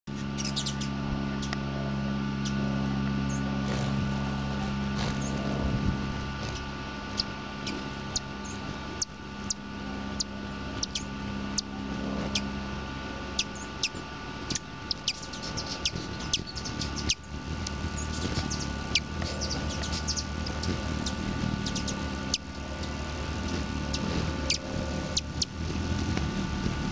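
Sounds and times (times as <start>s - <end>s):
hummingbird chirps: 0.1s - 1.7s, 2.3s - 5.5s, 6.4s - 12.6s, 13.3s - 26.8s
steady low hum: 0.1s - 26.9s.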